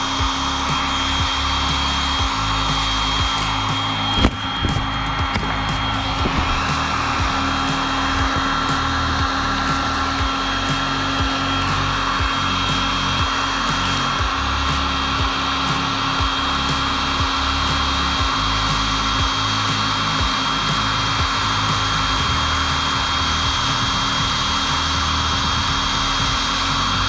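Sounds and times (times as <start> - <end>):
background music with beat: 0.0 - 27.0
heat gun blowing with whine: 0.0 - 27.0.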